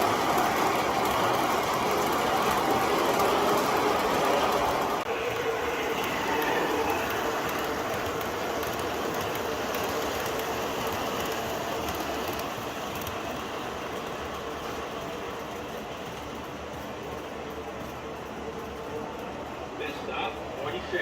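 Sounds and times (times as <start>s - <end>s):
model train rolling on track: 0.0s - 21.0s
subway sound effects: 0.0s - 21.0s.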